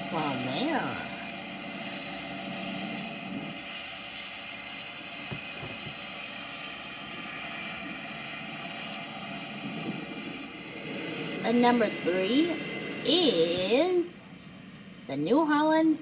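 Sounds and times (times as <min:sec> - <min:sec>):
diesel engine droning: 0:00.0 - 0:15.5.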